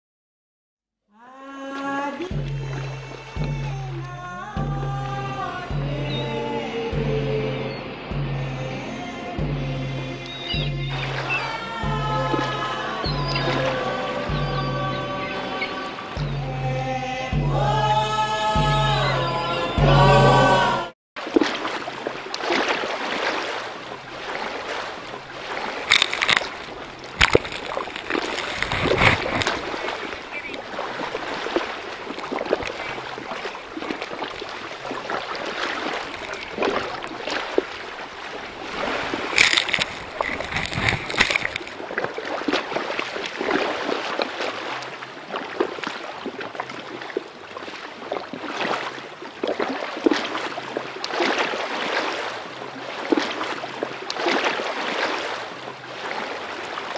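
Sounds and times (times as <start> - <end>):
water rushing along boat: 1.3 - 56.9
loud water splashes: 1.8 - 56.9.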